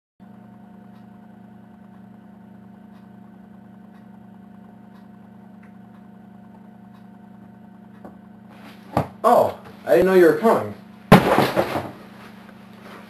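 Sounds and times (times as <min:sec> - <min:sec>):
low room hum: 0:00.2 - 0:13.0.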